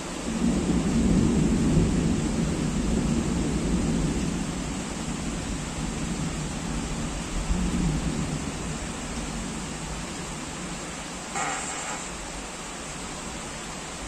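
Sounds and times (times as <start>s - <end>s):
heavy rain: 0.0s - 14.0s
thunder rumbling: 0.3s - 12.6s.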